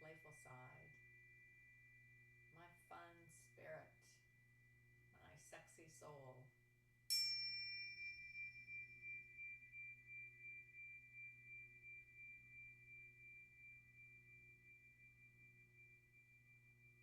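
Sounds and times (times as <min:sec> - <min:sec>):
tuning fork ringing: 0:00.0 - 0:05.4, 0:06.5 - 0:17.0.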